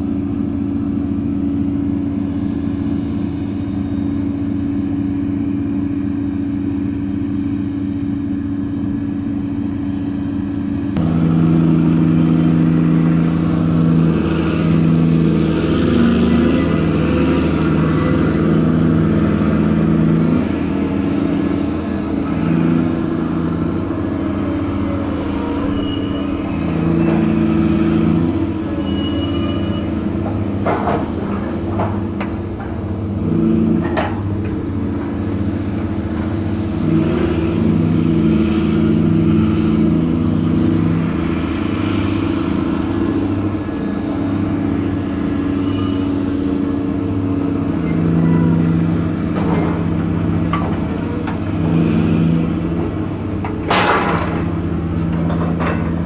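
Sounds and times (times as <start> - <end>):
diesel crane engine running: 0.0 - 56.0.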